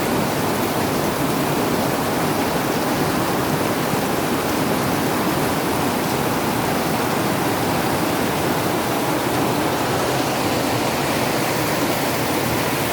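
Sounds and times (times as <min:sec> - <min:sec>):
heavy rain pouring: 0:00.0 - 0:12.9.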